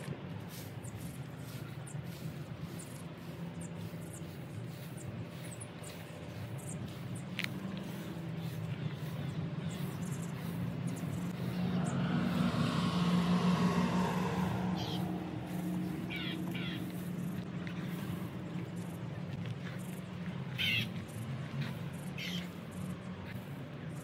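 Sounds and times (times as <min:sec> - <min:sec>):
vehicle passing: 0:00.0 - 0:24.0.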